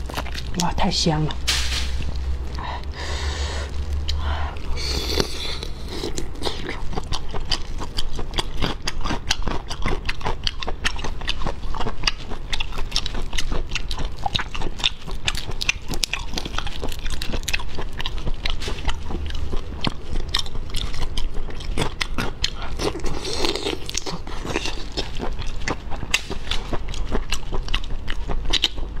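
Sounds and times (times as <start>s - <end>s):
chewing and crunching prawn shells: 0.0s - 29.0s.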